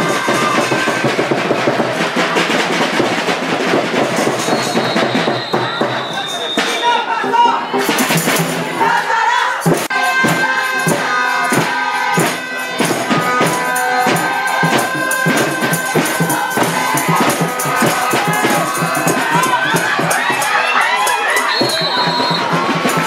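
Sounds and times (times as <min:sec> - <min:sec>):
music with driving beat: 0:00.0 - 0:06.8, 0:09.6 - 0:23.0.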